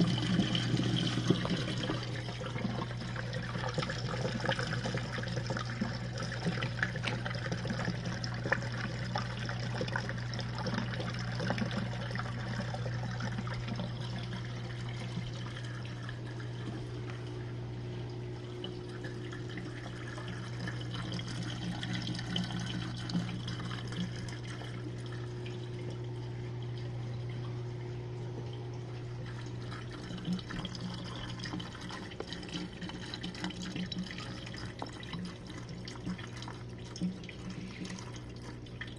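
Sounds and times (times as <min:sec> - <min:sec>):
dishwasher pump motor humming: 0:00.0 - 0:38.9.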